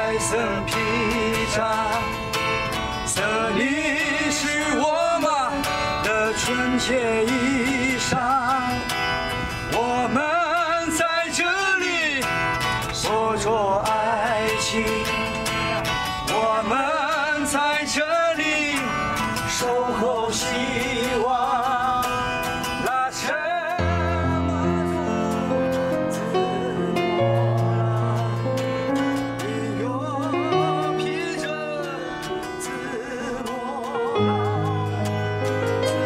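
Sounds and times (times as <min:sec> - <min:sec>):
acoustic guitar strumming: 0:00.0 - 0:36.0
man singing: 0:00.0 - 0:36.0.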